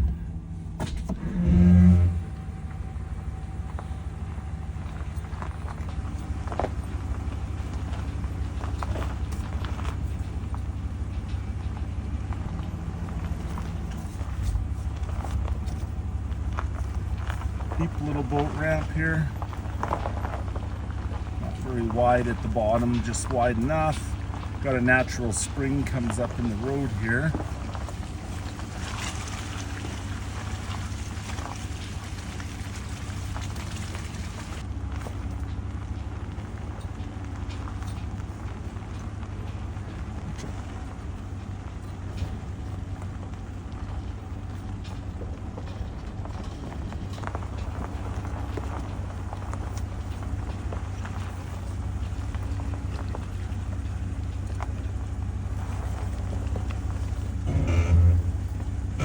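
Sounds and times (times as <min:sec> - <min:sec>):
knocks and rattles: 0:00.0 - 0:59.0
truck engine rumble: 0:00.0 - 0:59.0
tyres crackling on wet ground: 0:00.0 - 0:59.0.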